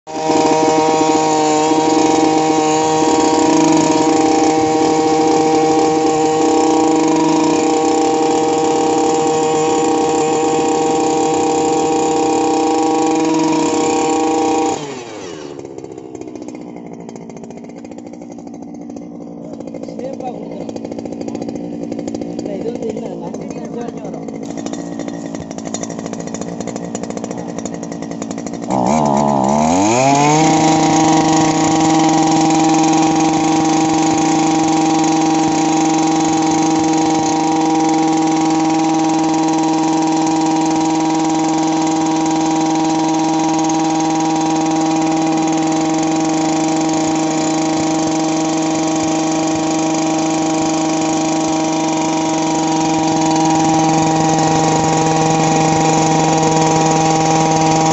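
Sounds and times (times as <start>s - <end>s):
earth auger engine revving: 0.0s - 57.9s.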